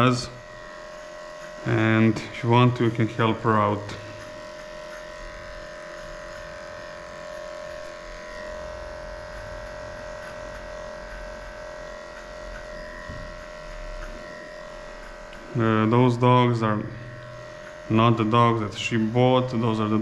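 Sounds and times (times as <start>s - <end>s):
electric clipper humming: 0.0s - 20.0s.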